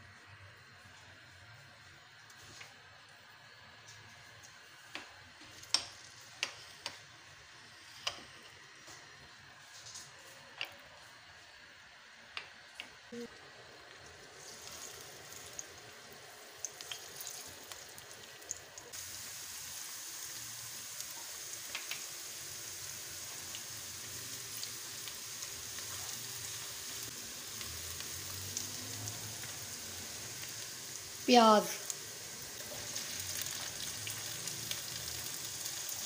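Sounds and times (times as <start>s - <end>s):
garlic sizzling in hot oil: 0.6s - 10.4s, 11.0s - 36.0s.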